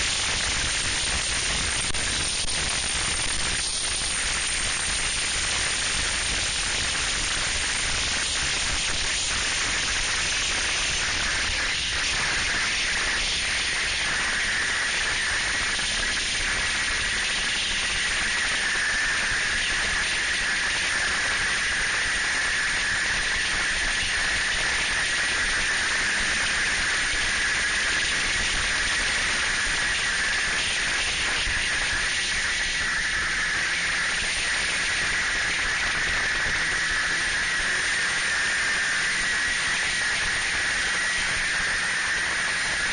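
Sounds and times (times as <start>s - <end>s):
high whine: 0.0s - 42.9s
snowmobile running: 0.0s - 42.9s.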